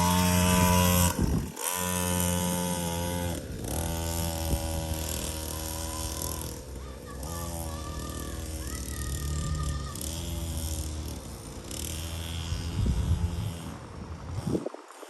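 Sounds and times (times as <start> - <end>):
dirt bike engine revving: 0.0 - 14.7.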